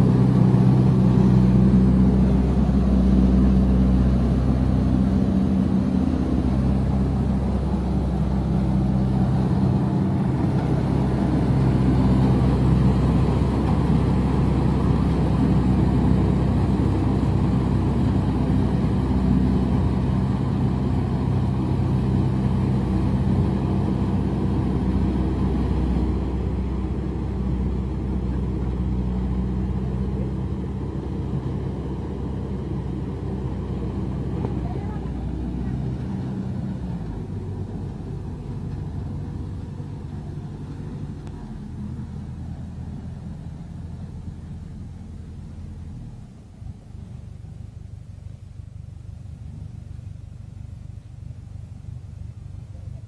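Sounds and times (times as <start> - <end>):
threshing machine running: 0.0 - 44.8.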